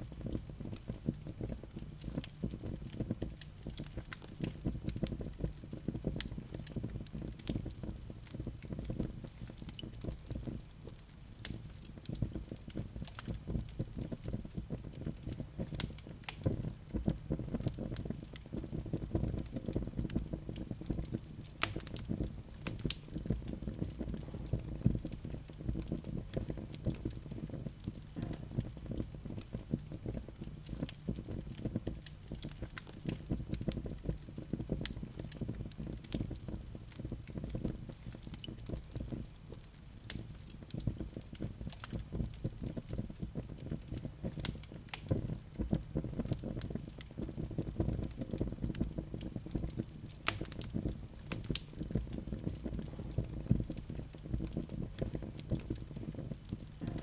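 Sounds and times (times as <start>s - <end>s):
burning logs crackling: 0.0s - 57.0s
rumble of fire flames: 0.0s - 57.0s.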